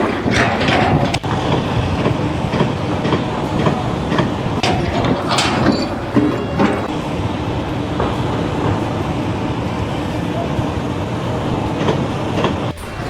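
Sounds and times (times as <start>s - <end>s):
rattling mechanical rumble: 0.0s - 13.0s.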